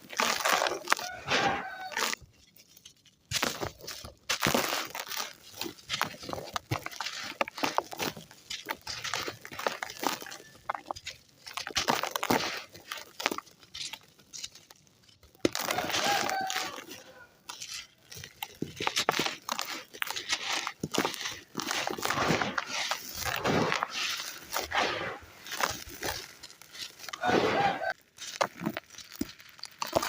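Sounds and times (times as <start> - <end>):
sand clumps crunching by hand: 0.0 - 30.0.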